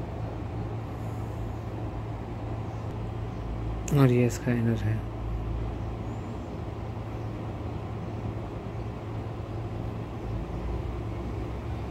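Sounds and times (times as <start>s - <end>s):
low rumble and hum: 0.0s - 11.9s.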